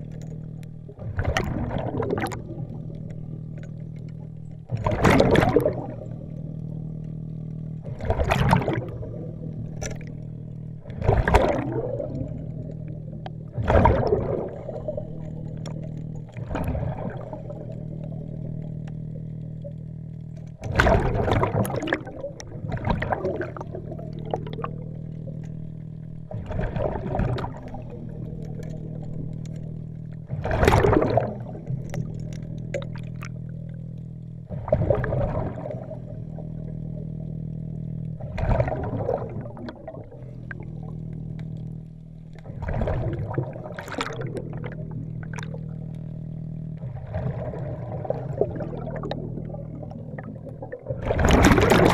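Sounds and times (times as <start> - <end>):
underwater exhale bubbling: 0.0 - 6.8, 7.8 - 18.9, 20.6 - 33.4, 34.5 - 36.7, 38.2 - 41.1, 42.4 - 51.9
steady low hum: 0.0 - 51.9.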